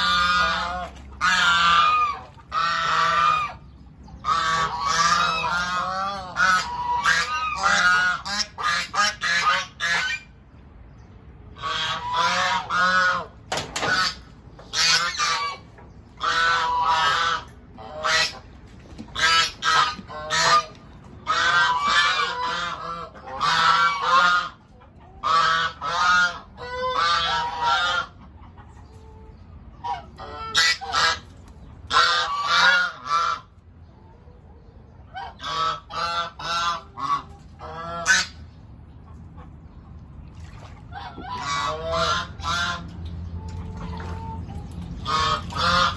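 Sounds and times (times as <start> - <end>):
geese honking: 0.0 - 10.3, 11.6 - 13.3, 13.9 - 18.5, 19.1 - 28.2, 29.8 - 31.3, 31.9 - 33.5, 35.1 - 38.5, 40.9 - 45.9.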